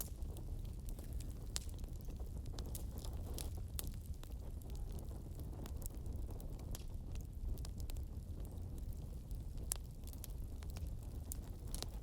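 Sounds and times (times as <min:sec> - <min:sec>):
fire crackling: 0:00.0 - 0:12.0
low rumble of flames: 0:00.0 - 0:12.0.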